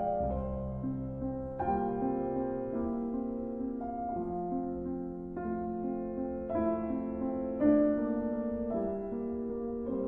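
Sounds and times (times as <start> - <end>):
slow piano chords: 0.0 - 10.0.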